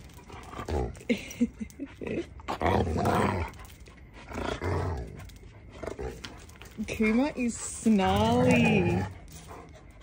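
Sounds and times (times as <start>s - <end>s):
dogs growling and snarling: 0.0s - 10.0s.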